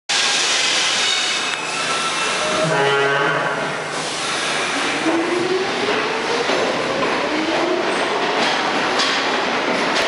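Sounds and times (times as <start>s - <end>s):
low train drone: 0.1s - 10.0s
subway station din: 0.1s - 10.0s.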